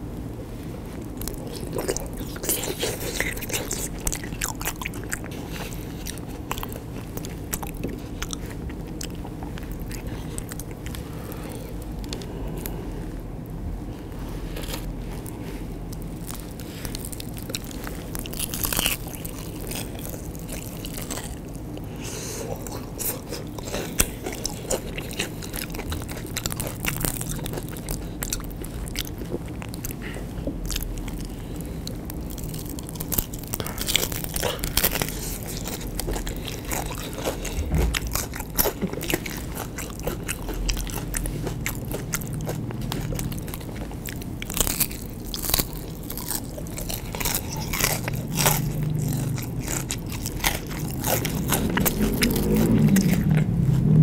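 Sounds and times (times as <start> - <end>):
crunchy biting and chewing: 1.0 - 54.0.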